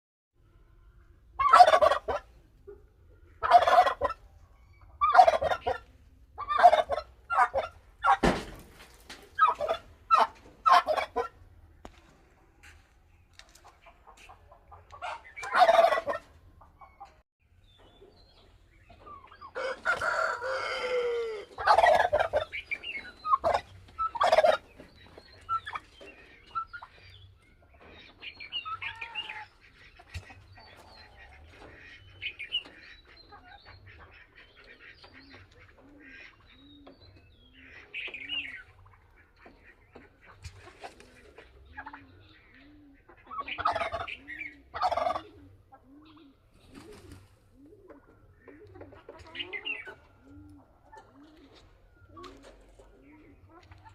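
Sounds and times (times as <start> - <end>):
fowl clucking and calling: 0.8 - 17.2, 17.8 - 53.9
turkey gobbling: 1.3 - 11.8, 13.5 - 17.2, 18.0 - 53.9.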